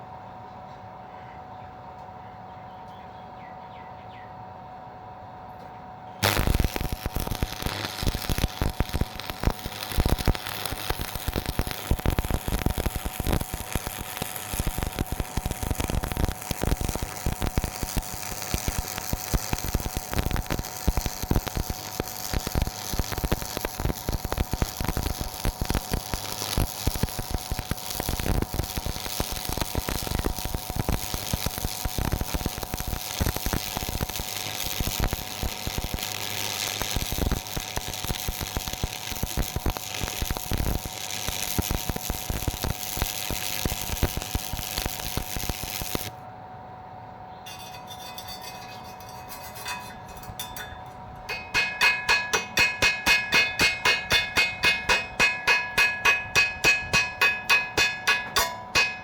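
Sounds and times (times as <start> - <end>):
welding arc crackling: 6.2 - 46.2, 47.5 - 59.0.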